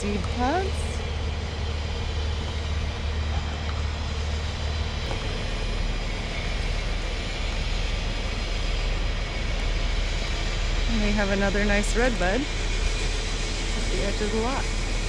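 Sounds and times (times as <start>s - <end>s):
distant traffic: 0.0s - 15.0s
machinery hum: 0.0s - 15.0s.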